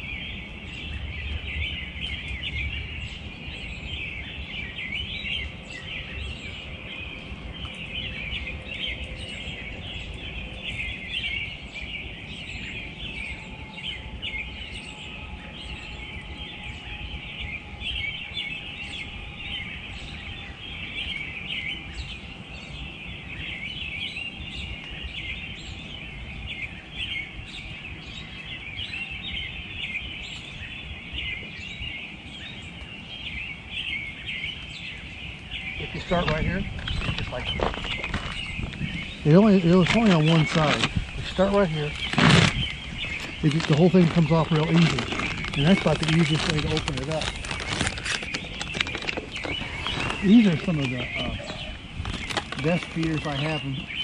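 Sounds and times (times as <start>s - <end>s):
low outdoor rumble: 0.0s - 54.0s
small birds chirping: 0.0s - 54.0s.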